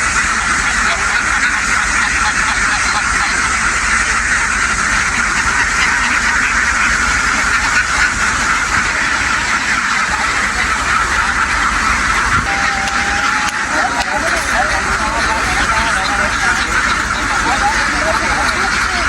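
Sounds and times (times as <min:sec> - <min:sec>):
flock of ducks quacking: 0:00.0 - 0:19.0.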